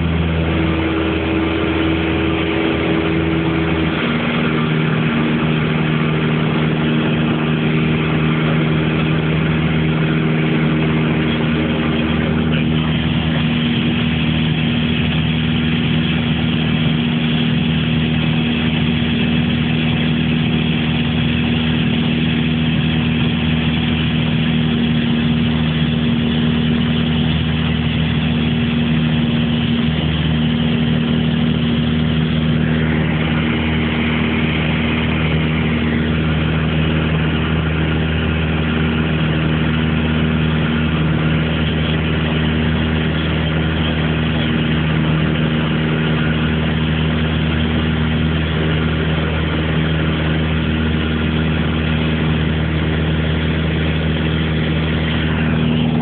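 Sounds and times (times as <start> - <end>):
light aircraft engine in flight: 0.0 - 56.0.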